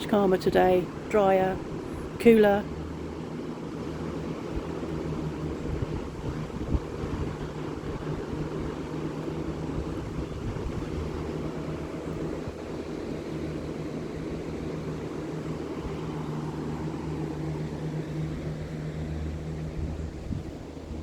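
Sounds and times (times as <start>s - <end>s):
lawn mower engine droning: 0.0s - 21.0s.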